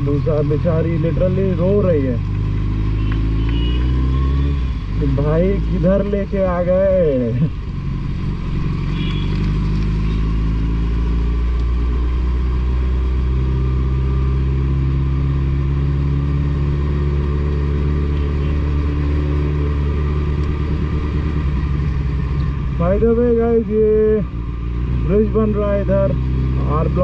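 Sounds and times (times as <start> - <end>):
motorcycle engine at low revs: 0.0 - 27.0.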